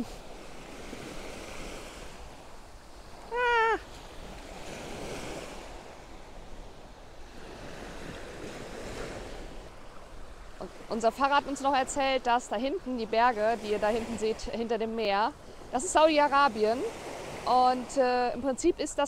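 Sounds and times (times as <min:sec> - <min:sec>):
small waves washing on sand: 0:00.0 - 0:19.0.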